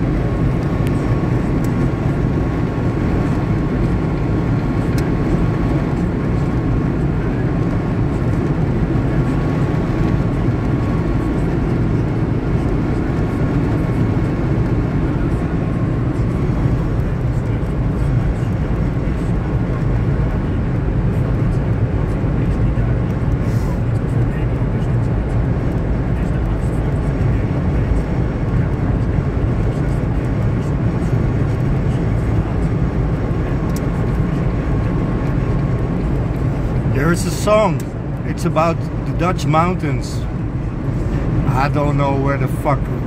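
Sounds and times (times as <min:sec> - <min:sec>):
car road and engine noise: 0:00.0 - 0:43.0.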